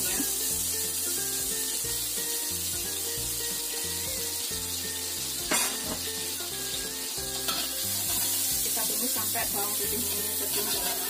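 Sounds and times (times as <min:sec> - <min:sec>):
garlic sizzling in butter: 0:00.0 - 0:11.0.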